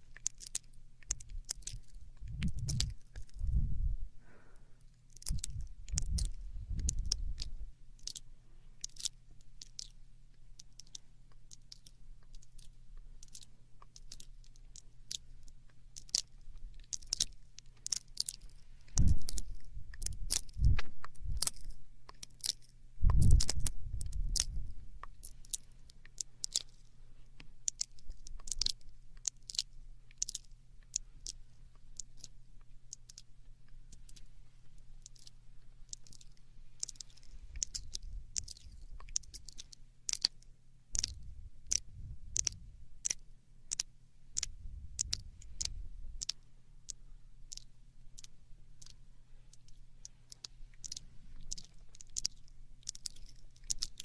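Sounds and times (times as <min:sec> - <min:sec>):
wet mouth clicks and smacks: 0:00.0 - 0:03.7, 0:04.9 - 0:08.2, 0:08.8 - 0:33.3, 0:35.0 - 0:54.0.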